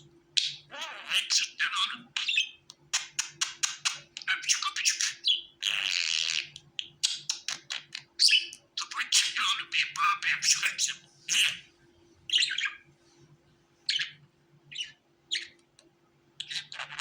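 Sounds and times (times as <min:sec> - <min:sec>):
budgerigar chirping: 0:00.4 - 0:11.6, 0:12.3 - 0:12.8, 0:13.9 - 0:15.6, 0:16.4 - 0:17.0.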